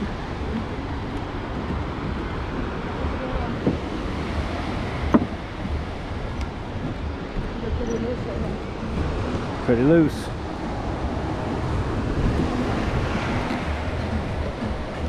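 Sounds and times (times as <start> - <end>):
ocean surf: 0.0 - 15.0
wind rumbling on microphone: 0.0 - 15.0.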